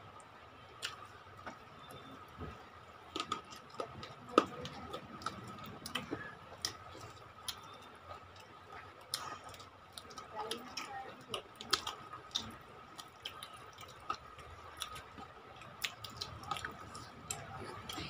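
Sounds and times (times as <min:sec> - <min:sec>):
people chewing with mouth smacks: 0:00.2 - 0:18.0.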